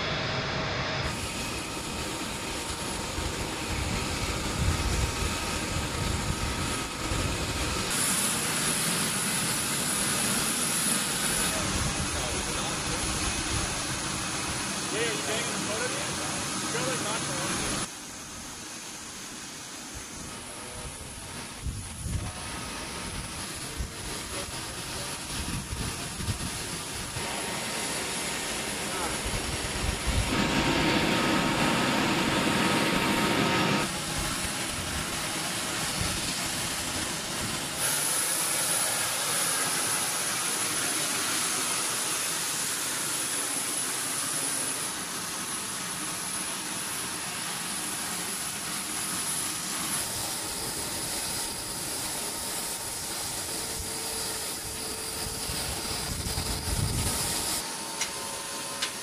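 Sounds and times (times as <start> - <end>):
jet engine roar with whine: 0.0 - 59.0.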